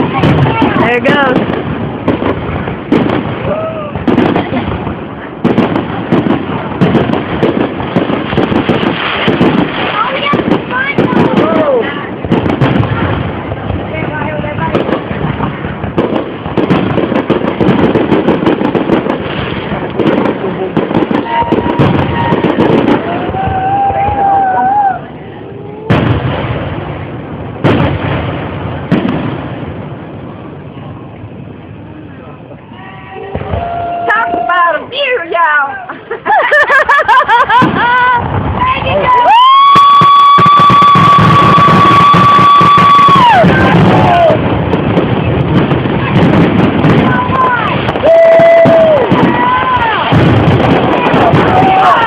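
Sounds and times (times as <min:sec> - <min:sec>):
firework crackling pops: 0:00.0 - 0:25.0, 0:25.8 - 0:30.4, 0:33.2 - 0:35.5, 0:36.3 - 0:52.0
firework booms: 0:00.0 - 0:32.1, 0:33.2 - 0:35.5, 0:36.3 - 0:52.0.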